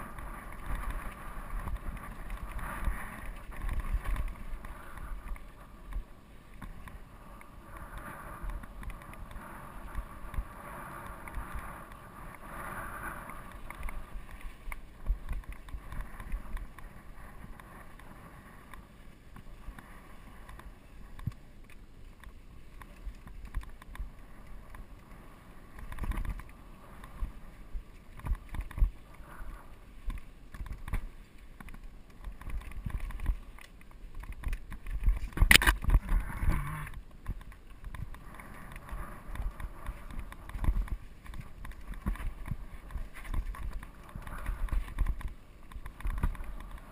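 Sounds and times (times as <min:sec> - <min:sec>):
bike rattling over bumps: 0:00.0 - 0:18.3, 0:19.2 - 0:46.9
bike tyres on dirt and gravel: 0:00.0 - 0:46.9.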